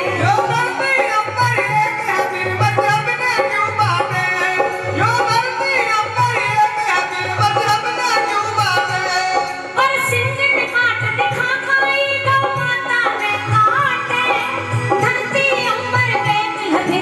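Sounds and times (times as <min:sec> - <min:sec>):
dholak drum beating: 0:00.0 - 0:17.0
keyboard: 0:00.0 - 0:17.0
woman singing into microphone: 0:00.0 - 0:17.0.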